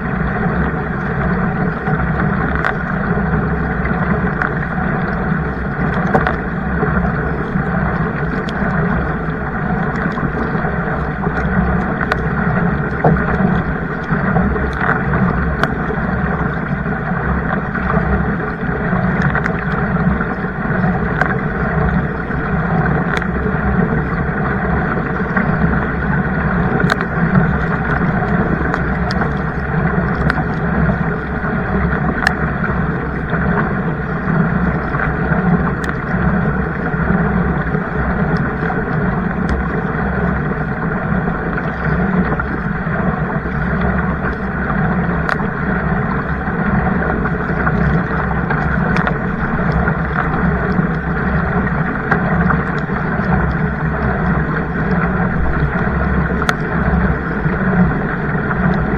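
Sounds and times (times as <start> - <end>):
small clicks and drips: 0.0 - 58.9
water rushing: 0.0 - 58.9.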